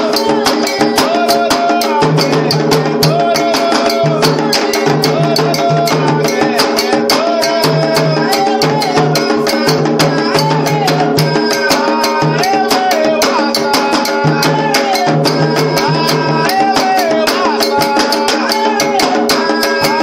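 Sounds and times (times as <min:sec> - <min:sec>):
hand drums and percussion: 0:00.0 - 0:20.0
person singing: 0:00.0 - 0:20.0.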